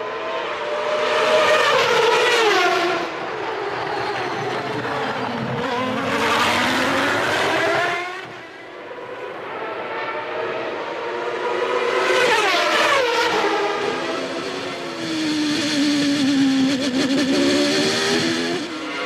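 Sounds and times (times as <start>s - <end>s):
racing engine at high revs: 0.0s - 19.0s.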